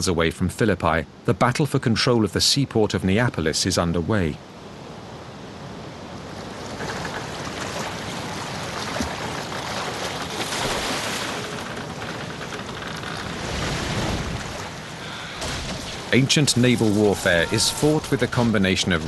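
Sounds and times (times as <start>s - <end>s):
wind: 0.0s - 19.0s
waves washing: 3.4s - 19.0s.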